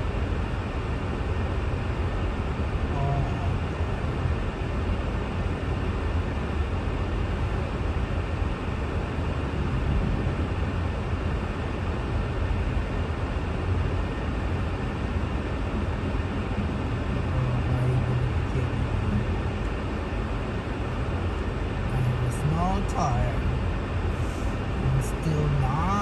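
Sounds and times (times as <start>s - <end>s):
car engine and tyre noise: 0.0s - 26.0s
low hum: 2.2s - 26.0s.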